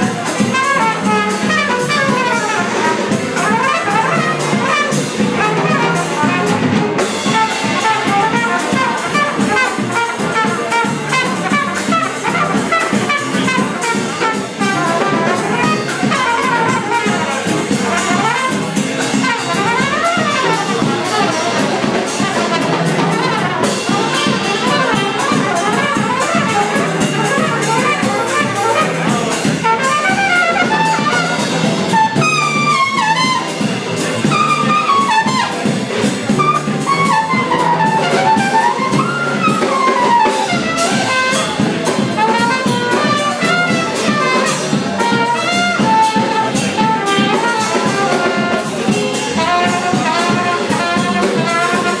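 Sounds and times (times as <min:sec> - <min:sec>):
drums: 0:00.0 - 0:52.0
piano: 0:00.0 - 0:52.0
saxophone: 0:00.0 - 0:52.0
trumpet: 0:00.0 - 0:52.0
upright bass: 0:00.0 - 0:52.0.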